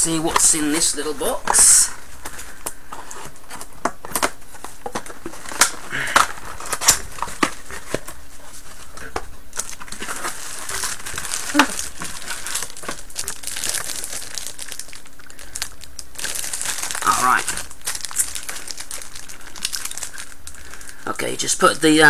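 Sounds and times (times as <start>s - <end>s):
packaging crinkling and crackling: 0.0s - 22.0s.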